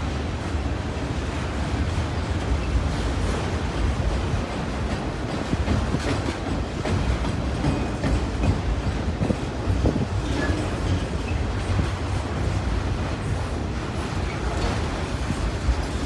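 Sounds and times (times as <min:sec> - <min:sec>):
train clacks: 0:00.0 - 0:16.0
train wheels rumbling on rail: 0:00.0 - 0:16.0.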